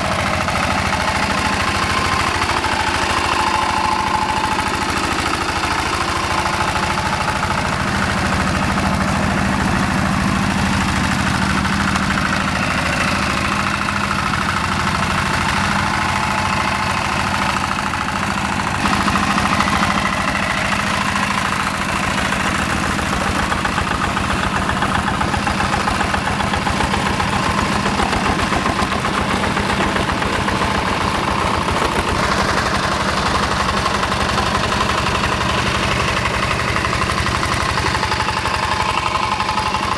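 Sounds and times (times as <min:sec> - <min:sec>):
diesel engine putt-putt: 0:00.0 - 0:39.9.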